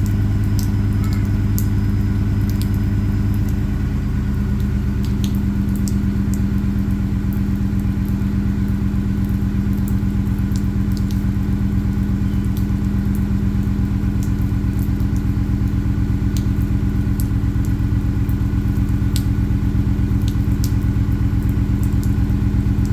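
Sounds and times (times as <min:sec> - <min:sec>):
truck engine idling: 0:00.0 - 0:22.9.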